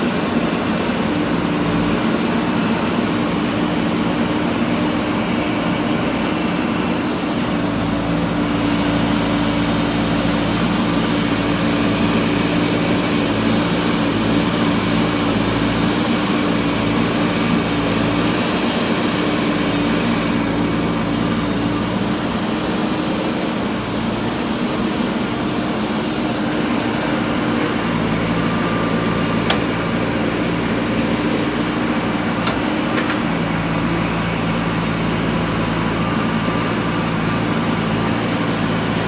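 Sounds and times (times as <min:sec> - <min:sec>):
backhoe diesel engine running: 0:00.0 - 0:39.0.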